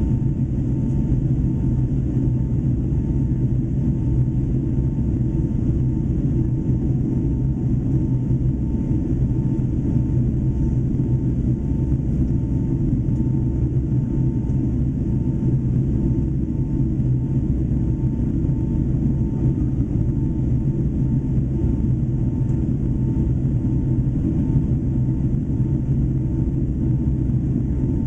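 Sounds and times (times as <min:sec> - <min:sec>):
jet engine rumble in flight: 0:00.0 - 0:28.0.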